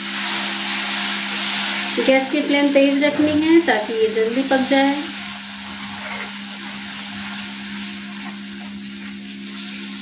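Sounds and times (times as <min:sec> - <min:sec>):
gravy sizzling in a pan: 0:00.0 - 0:10.0.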